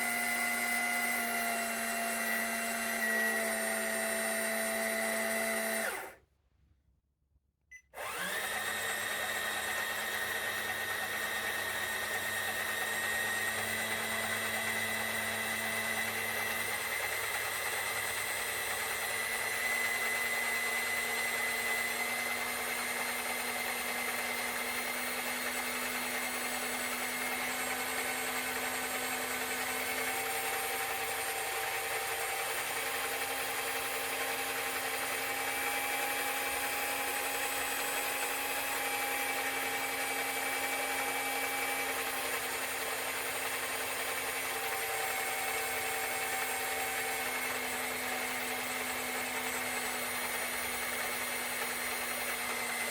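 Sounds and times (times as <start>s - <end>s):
small electric motor whining: 0.0s - 6.2s, 8.0s - 52.9s.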